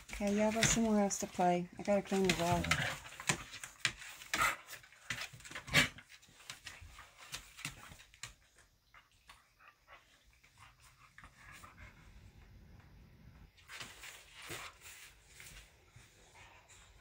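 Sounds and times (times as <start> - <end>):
dogs scuffling on wooden floor: 0.0 - 11.7, 13.5 - 17.0.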